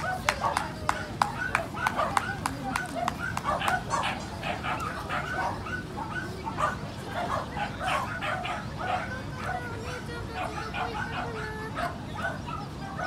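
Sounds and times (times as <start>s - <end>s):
dogs yipping and barking: 0.0s - 13.0s.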